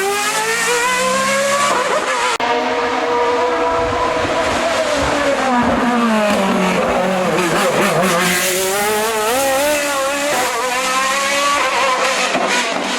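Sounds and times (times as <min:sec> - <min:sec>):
race car engine revving: 0:00.0 - 0:12.9.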